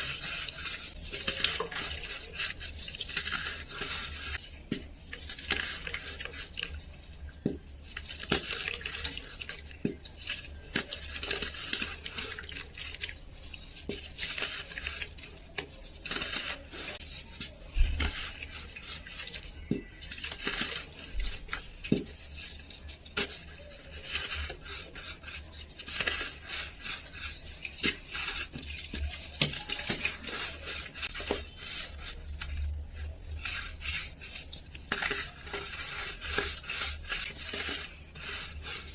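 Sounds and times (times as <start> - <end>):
dry material crushed in a dish: 0.0 - 38.9.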